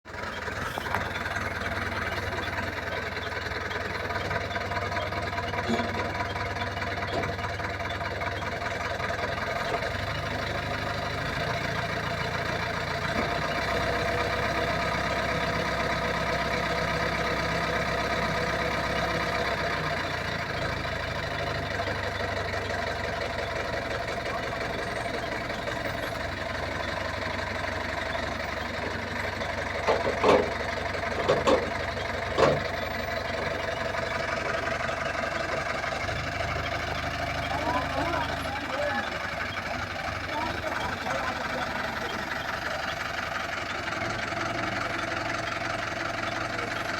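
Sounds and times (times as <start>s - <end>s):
engine humming: 0.0s - 46.9s.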